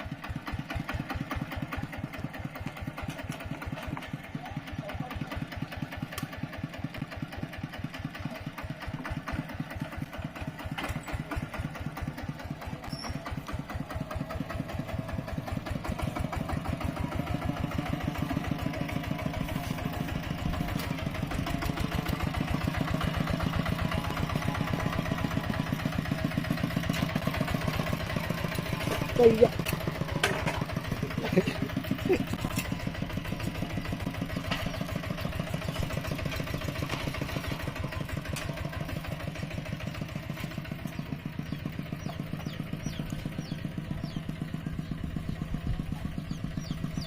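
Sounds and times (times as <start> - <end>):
small tractor engine chugging: 0.0 - 47.0.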